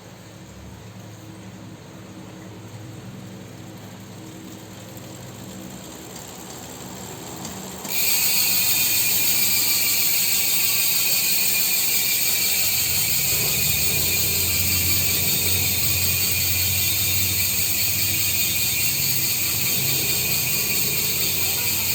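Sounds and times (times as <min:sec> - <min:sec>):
bicycle hub freewheel clicking: 0:03.2 - 0:21.9.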